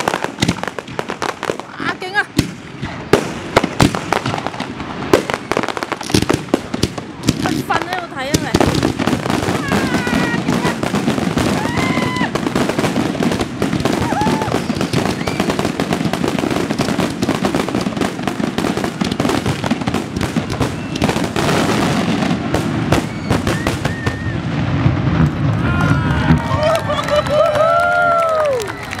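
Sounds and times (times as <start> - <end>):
fireworks bursting overhead: 0.0 - 29.0.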